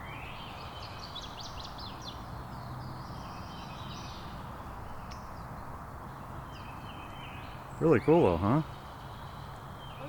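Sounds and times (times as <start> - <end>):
wild birds chirping: 0.0 - 10.0.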